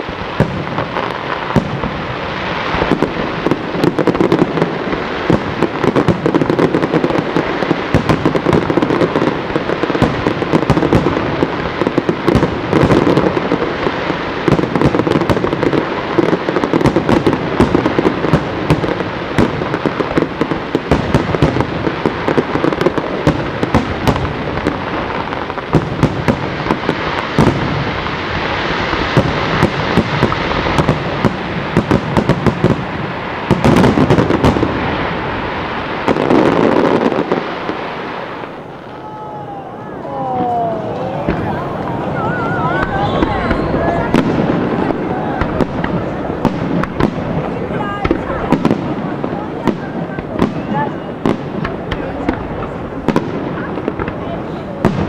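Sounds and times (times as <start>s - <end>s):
firework crackling: 0.0s - 55.0s.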